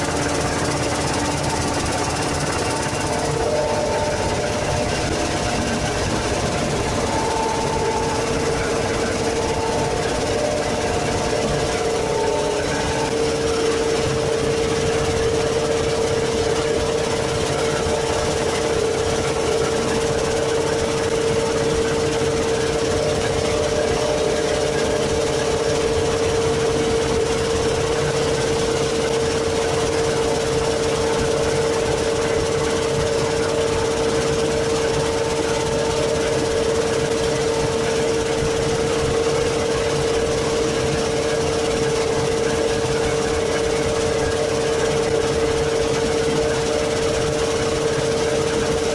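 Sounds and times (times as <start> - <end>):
machine hum with whine: 0.0 - 48.9.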